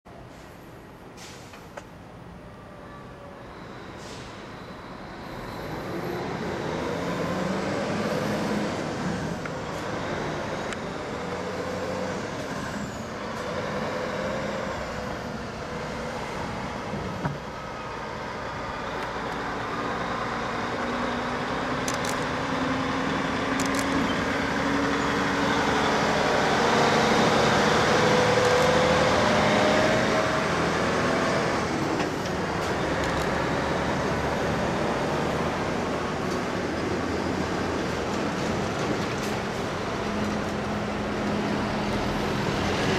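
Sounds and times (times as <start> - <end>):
heavy diesel trucks driving past: 0.1 - 42.9.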